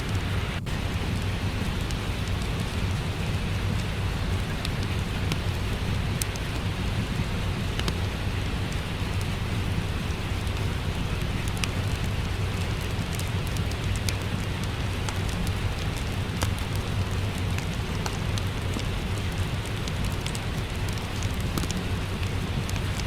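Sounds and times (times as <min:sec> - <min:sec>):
steady rain: 0:00.0 - 0:23.0
wood fire crackling: 0:00.0 - 0:23.0.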